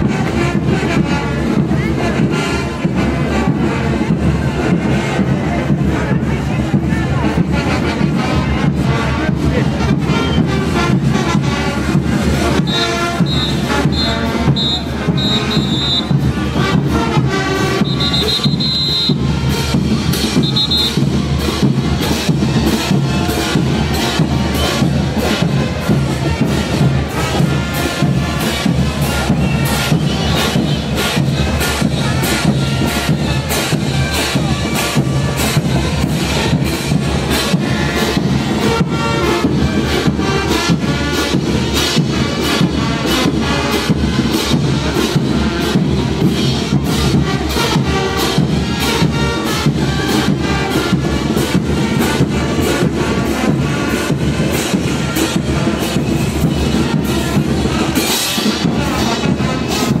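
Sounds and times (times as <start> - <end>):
bass drum beat: 0.0 - 60.0
brass band playing dance music: 0.0 - 60.0.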